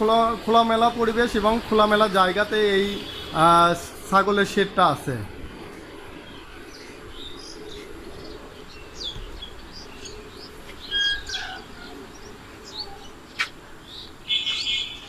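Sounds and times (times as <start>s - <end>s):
small birds chirping: 0.0s - 4.8s, 5.4s - 15.0s.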